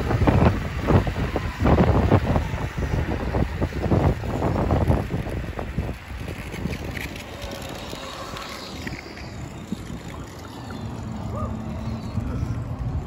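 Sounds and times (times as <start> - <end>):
skateboard wheels rolling on asphalt: 0.0 - 13.0
wind noise on microphone: 0.0 - 13.0.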